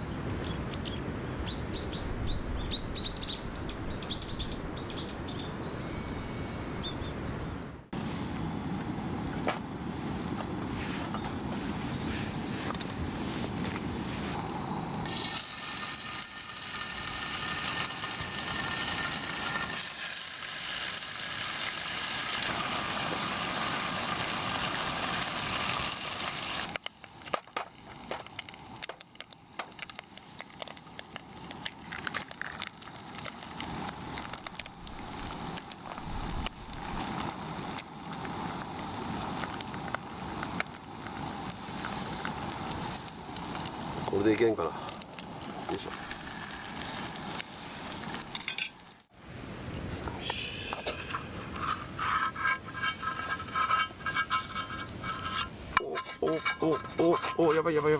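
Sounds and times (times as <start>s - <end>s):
campfire crackling: 7.9s - 57.9s
steady hiss: 8.0s - 57.9s.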